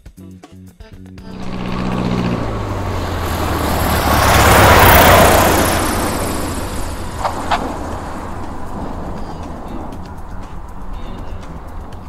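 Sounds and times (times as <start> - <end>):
propeller plane passing by: 1.3 - 12.0.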